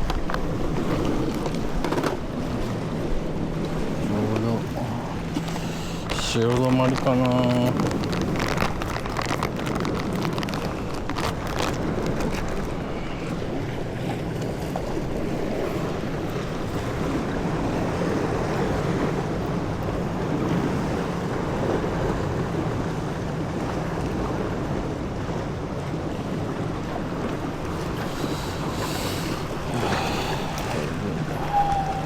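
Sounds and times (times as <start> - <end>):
water washing against boat: 0.0 - 32.0
wind buffeting microphone: 0.0 - 32.0.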